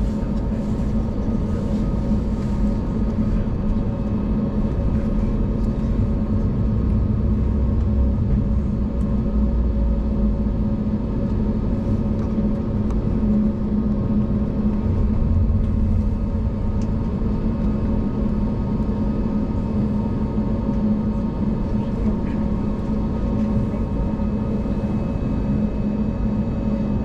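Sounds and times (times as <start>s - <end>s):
airplane cabin engine hum: 0.0s - 27.0s.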